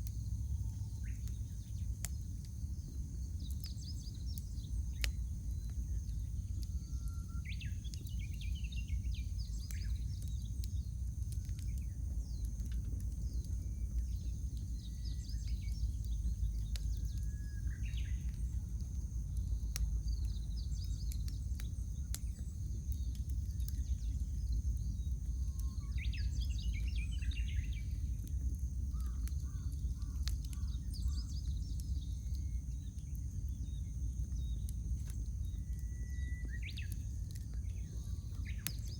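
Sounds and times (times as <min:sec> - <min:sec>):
small birds chirping: 0:00.0 - 0:38.9
wood fire crackling: 0:00.0 - 0:38.9.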